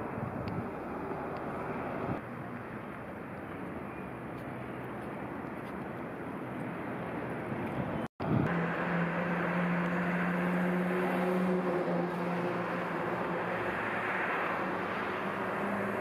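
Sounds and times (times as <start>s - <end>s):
passing vehicles: 0.0s - 16.0s.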